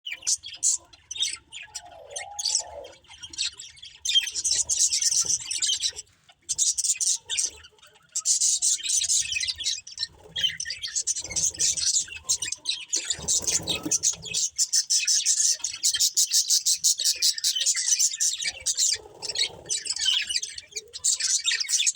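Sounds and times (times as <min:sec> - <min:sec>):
budgerigars chirping and chattering: 0:00.1 - 0:21.9.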